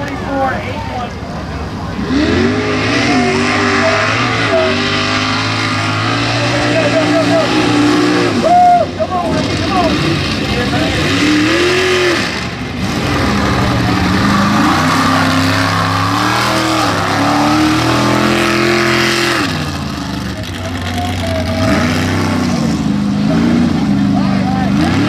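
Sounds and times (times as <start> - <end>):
truck engine revving hard: 1.3 - 25.0.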